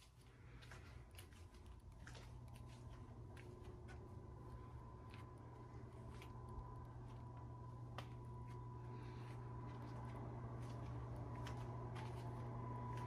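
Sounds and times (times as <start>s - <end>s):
low hum: 0.0s - 13.0s
faint high whine: 1.3s - 13.0s.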